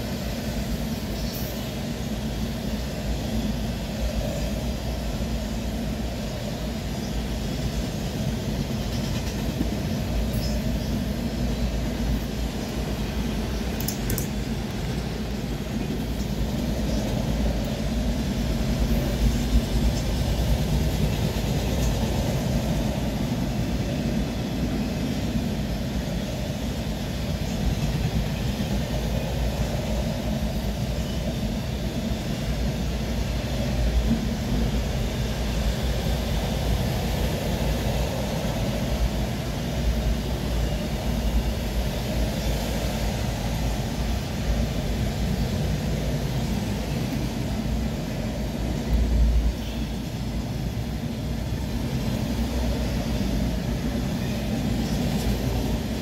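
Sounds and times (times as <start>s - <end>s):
train hiss: 0.0s - 56.0s
train wheels rumbling on rails: 0.0s - 56.0s.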